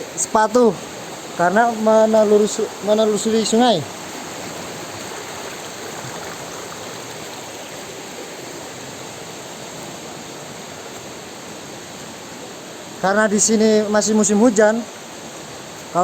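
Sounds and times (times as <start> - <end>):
river flowing: 0.0 - 16.0.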